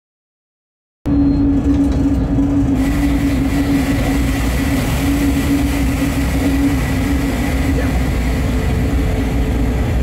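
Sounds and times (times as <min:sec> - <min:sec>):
electric locomotive hum: 0:01.1 - 0:10.0
wheels rumbling on track: 0:01.1 - 0:10.0.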